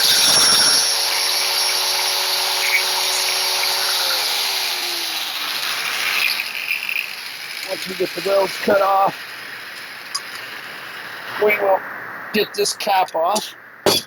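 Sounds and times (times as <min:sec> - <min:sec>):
power tool cutting steel: 0:00.0 - 0:11.8.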